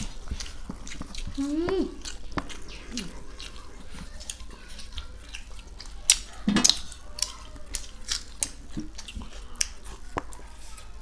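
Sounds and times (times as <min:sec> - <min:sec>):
wet chewing and lip smacks: 0:00.0 - 0:11.0.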